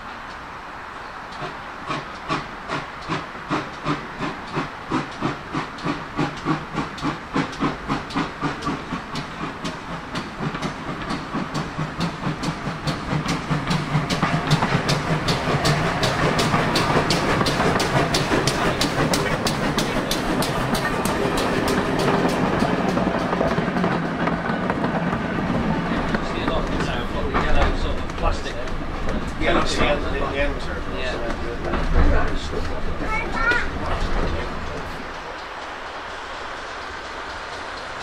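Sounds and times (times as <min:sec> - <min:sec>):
steam hissing: 0:01.0 - 0:38.0
steam locomotive chuffing: 0:01.2 - 0:38.0.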